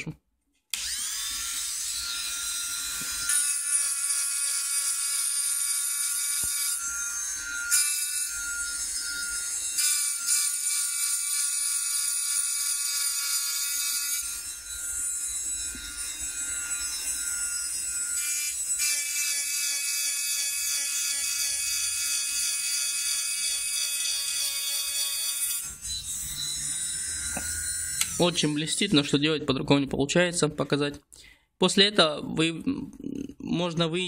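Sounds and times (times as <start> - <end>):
rotary engraving tool whining: 0.8 - 28.6.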